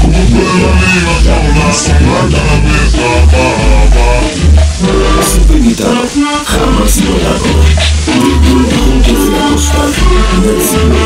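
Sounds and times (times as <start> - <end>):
latin dance band music: 0.0 - 11.0.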